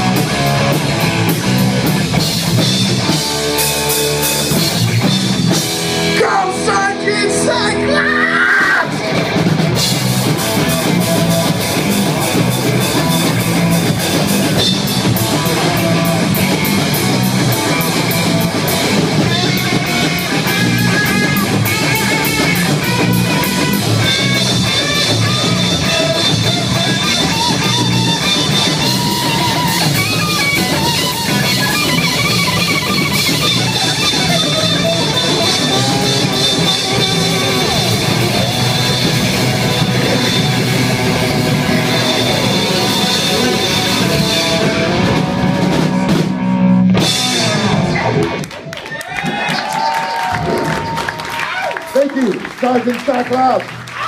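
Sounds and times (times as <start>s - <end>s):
amplified electric guitars: 0.0s - 54.0s
drum kit: 0.0s - 54.0s.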